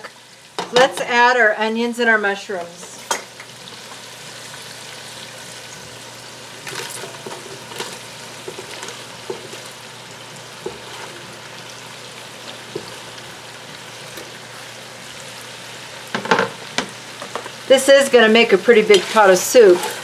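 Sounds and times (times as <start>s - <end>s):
bacon sizzling: 0.0s - 20.0s.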